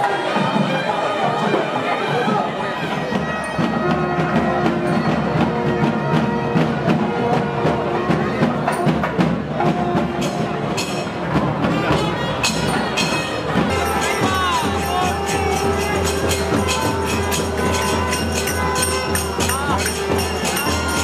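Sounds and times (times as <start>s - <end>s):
double-reed horn melody: 0.1s - 21.0s
sharp drum strokes: 3.0s - 21.0s.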